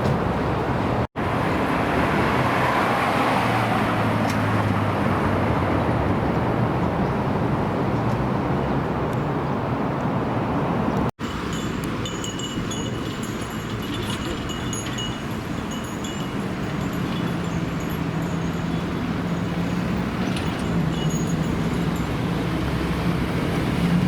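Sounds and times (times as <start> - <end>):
traffic noise: 0.0 - 24.0.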